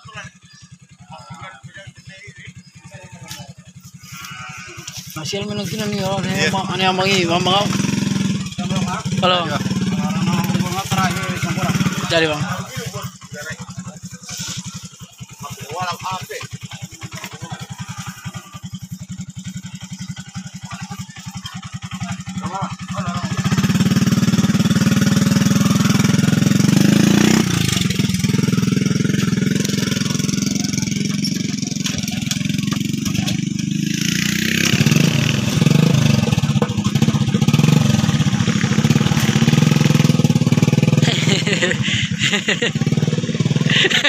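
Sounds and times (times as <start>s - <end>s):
motorbike engine idling: 0.0s - 44.0s.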